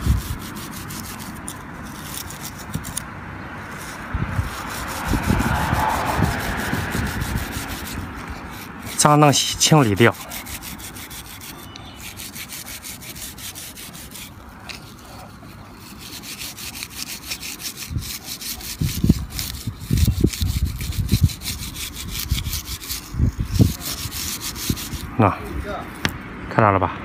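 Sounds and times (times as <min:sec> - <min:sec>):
rubbing strokes on wiper blade: 0:00.0 - 0:26.1.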